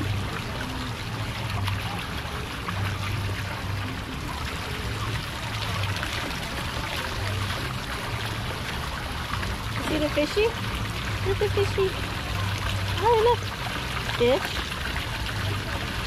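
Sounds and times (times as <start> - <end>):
shallow water trickling: 0.0 - 16.0.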